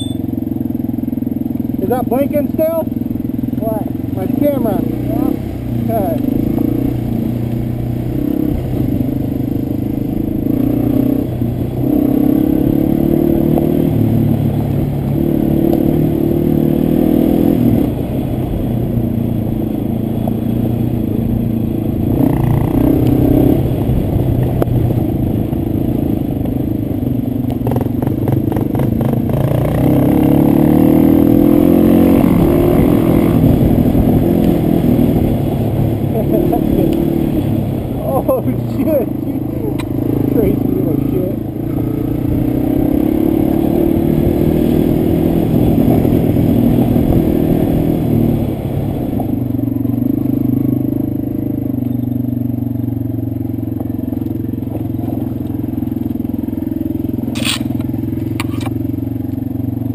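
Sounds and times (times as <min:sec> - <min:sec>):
dirt bike engines revving: 0:00.0 - 0:26.7, 0:27.5 - 0:59.9.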